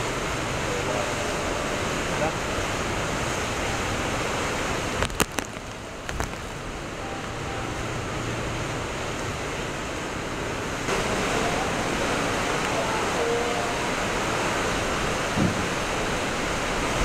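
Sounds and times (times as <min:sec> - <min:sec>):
strong wind: 0:00.0 - 0:17.0
torrential rain: 0:00.0 - 0:17.0.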